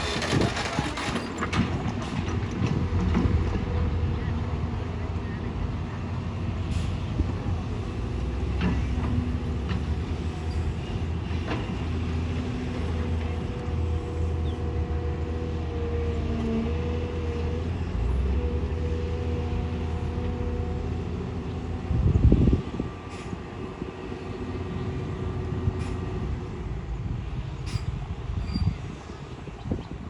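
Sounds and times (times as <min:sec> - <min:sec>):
excavator diesel engine whining: 0:00.0 - 0:29.6.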